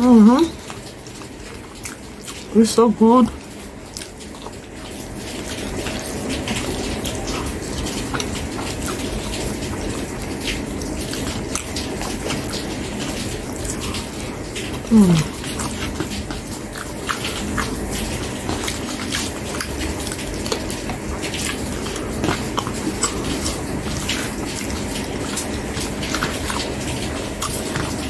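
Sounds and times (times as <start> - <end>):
wet chewing and lip smacking: 0.4 - 28.0.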